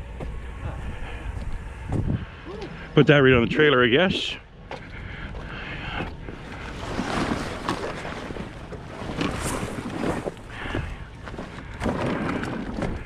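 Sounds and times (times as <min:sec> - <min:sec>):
wind buffeting microphone: 0:00.0 - 0:03.6, 0:04.6 - 0:13.0.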